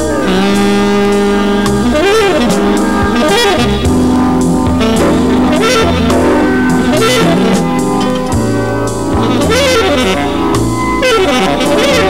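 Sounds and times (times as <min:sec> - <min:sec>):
background music with sliding melody: 0:00.0 - 0:12.0.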